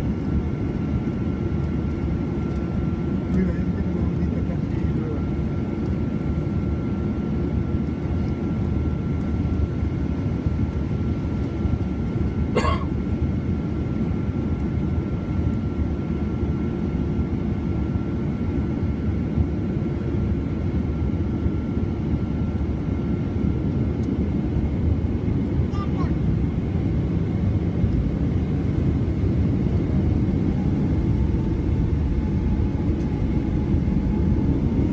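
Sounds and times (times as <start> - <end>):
jet engines rumbling in cabin: 0.0 - 34.9.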